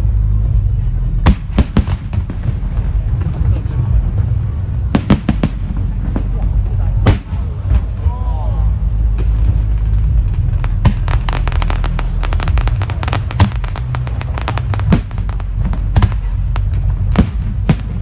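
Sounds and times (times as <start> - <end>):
fireworks crackling pops: 0.0 - 18.0
steady low rumble: 0.0 - 18.0
fireworks bangs: 0.5 - 18.0.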